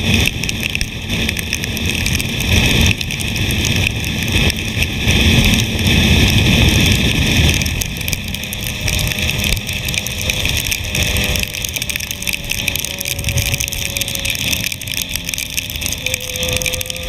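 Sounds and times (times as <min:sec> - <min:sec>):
heavy wind rush: 0:00.0 - 0:17.0
motorcycle engine: 0:00.0 - 0:17.0
rain spray crackle: 0:00.0 - 0:17.0.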